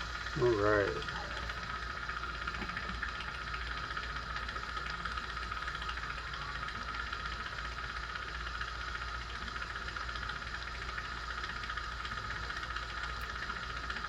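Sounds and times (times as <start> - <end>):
machine hum with whirring hiss: 0.0 - 14.0.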